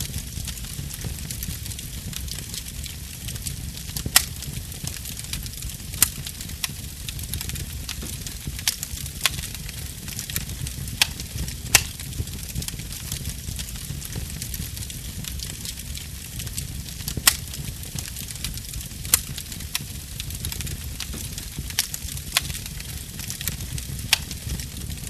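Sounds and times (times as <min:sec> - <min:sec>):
low rumble of flame: 0:00.0 - 0:25.0
wood fire crackling: 0:00.0 - 0:25.0.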